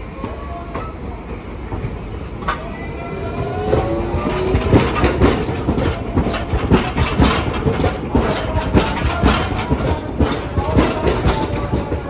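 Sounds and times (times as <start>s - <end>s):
low rumble of tram: 0.0s - 12.0s
tram wheels clattering over rails: 0.0s - 12.0s.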